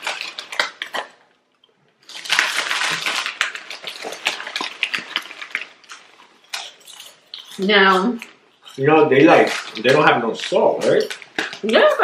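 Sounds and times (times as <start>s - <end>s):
chip bag crinkling: 0.0s - 1.4s, 2.0s - 12.0s.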